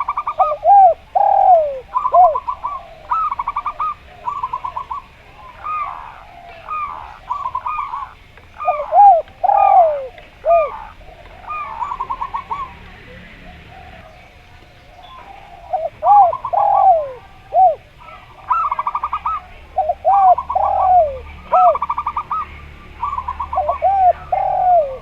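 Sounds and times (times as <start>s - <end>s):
doves cooing: 0.0s - 25.0s.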